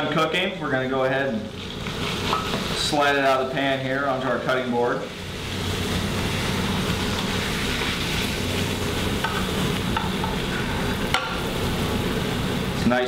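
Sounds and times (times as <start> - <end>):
fish sizzling in hot oil: 1.3 - 13.0.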